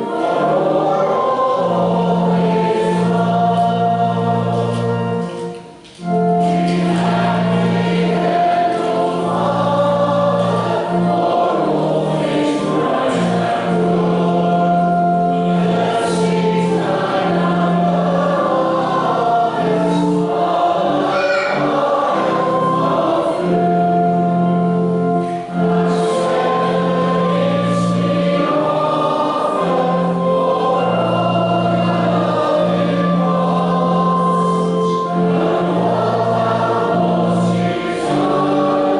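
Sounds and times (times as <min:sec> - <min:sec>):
choir singing: 0:00.0 - 0:38.9
instrumental accompaniment: 0:00.0 - 0:38.9.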